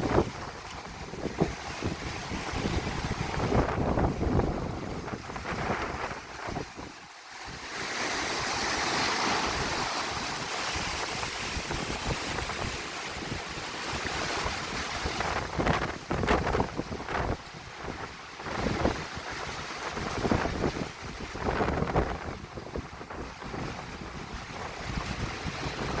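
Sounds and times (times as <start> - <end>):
waves breaking on beach: 0.0 - 26.0
wind buffeting microphone: 0.0 - 26.0.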